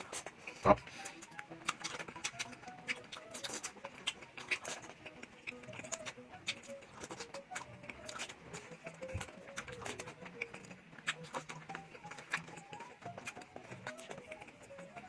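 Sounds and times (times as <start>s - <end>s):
person chewing with wet smacks: 0.0s - 15.0s.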